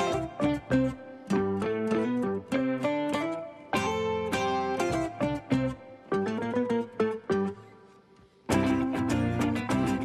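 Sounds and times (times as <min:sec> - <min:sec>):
plucked string instrumental: 0:00.0 - 0:10.0.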